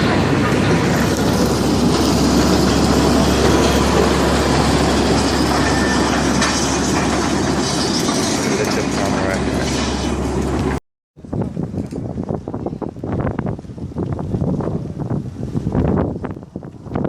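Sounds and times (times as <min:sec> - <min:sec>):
vehicle rumbling: 0:00.0 - 0:17.0.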